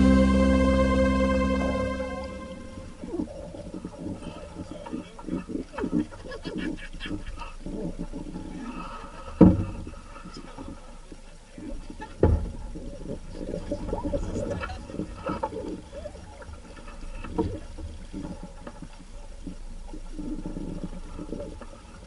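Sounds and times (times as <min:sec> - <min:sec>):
water lapping against boat hull: 0:03.1 - 0:22.0.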